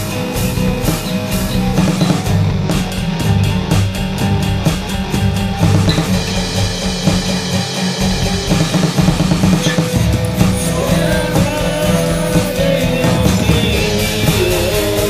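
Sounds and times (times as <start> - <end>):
rock song with guitar and drums: 0.0 - 15.0.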